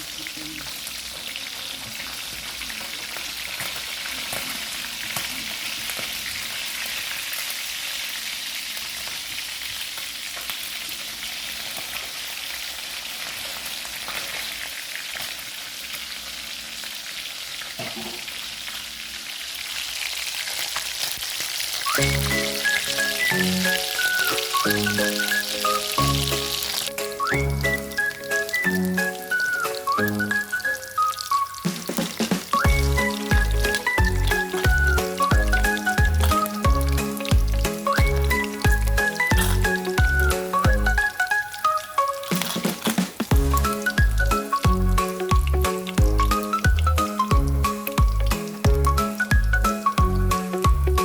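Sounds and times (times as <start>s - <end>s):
chicken sizzling in oil: 0.0s - 51.0s.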